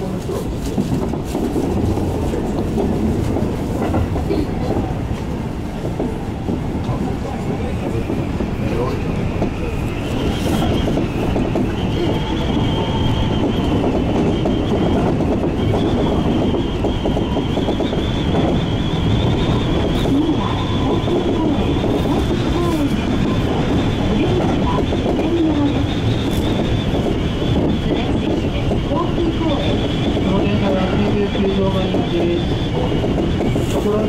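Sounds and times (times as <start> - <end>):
train wheels rumbling over rails: 0.0 - 34.0.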